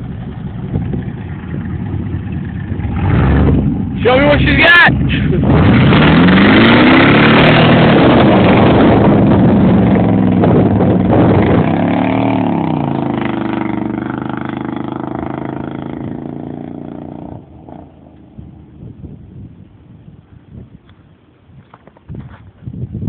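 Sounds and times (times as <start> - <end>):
pickup truck engine accelerating: 0.0 - 18.8.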